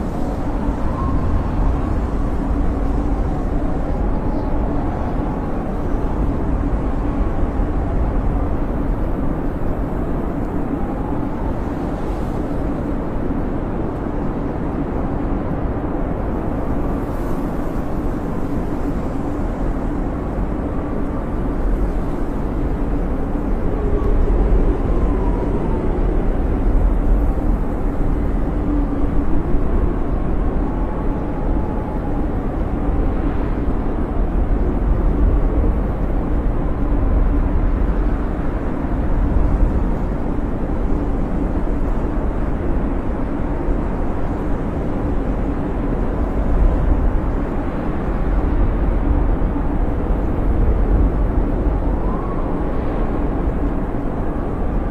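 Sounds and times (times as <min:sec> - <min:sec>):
blizzard wind howling: 0:00.0 - 0:54.9.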